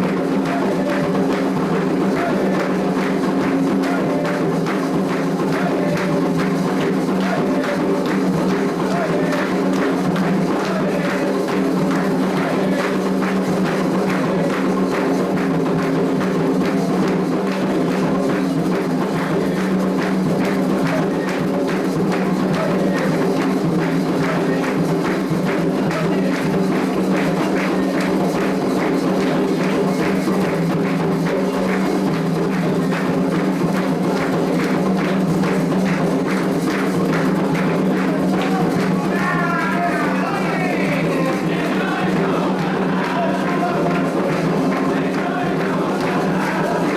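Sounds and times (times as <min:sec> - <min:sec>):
hand drums and percussion: 0:00.0 - 0:46.9.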